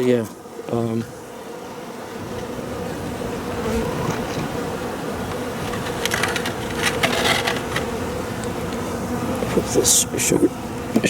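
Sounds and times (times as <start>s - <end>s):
honey bees buzzing: 0.0s - 11.0s
rustling and crackling: 0.0s - 11.0s.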